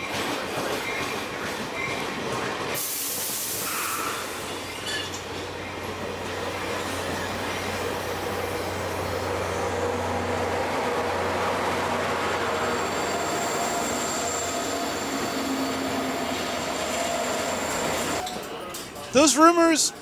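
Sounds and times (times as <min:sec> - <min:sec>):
train rumbling along: 0:00.0 - 0:18.2.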